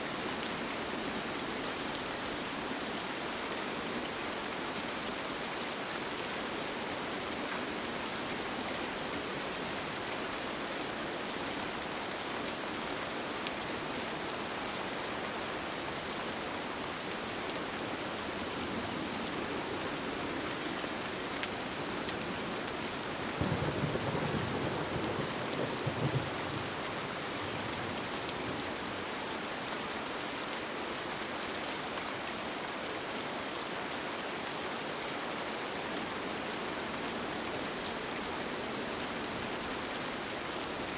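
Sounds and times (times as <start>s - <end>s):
rain pattering on a tent: 0.0s - 40.9s.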